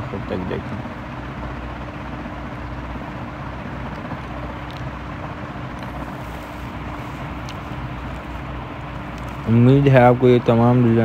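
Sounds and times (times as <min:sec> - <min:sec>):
faint constant hum: 0:00.0 - 0:11.0.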